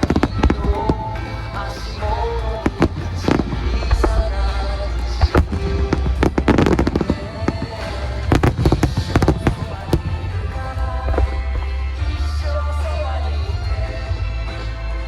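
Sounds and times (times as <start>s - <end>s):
fireworks bursting: 0.0s - 13.8s
music playing: 0.0s - 15.0s.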